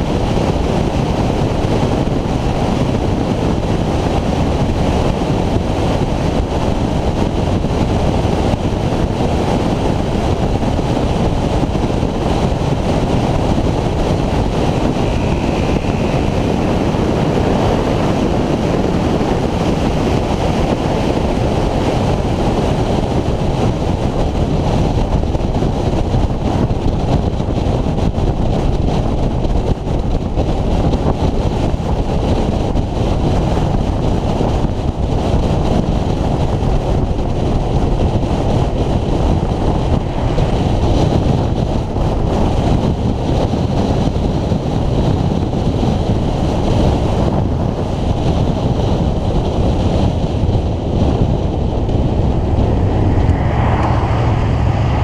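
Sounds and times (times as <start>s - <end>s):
road noise: 0.0s - 29.6s, 36.8s - 43.5s, 46.2s - 55.0s
wind buffeting microphone: 0.0s - 55.0s.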